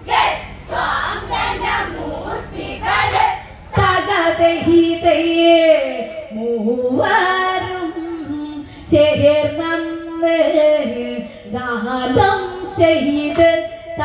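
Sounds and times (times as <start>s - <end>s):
women singing folk song: 0.0s - 14.0s.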